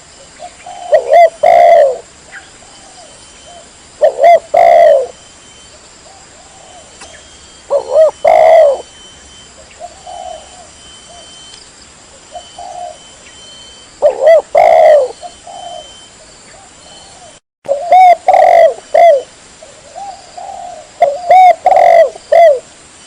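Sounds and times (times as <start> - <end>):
dove cooing: 0.4 - 11.5, 12.2 - 22.7.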